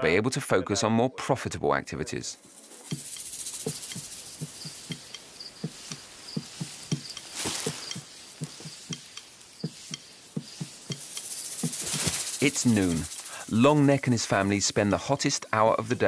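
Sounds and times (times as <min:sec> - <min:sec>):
brief hiss: 0:02.6 - 0:16.0.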